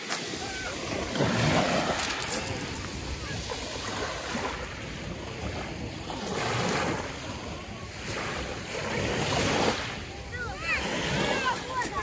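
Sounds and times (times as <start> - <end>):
sea waves washing in: 0.0 - 12.0
wind buffeting microphone: 0.3 - 12.0.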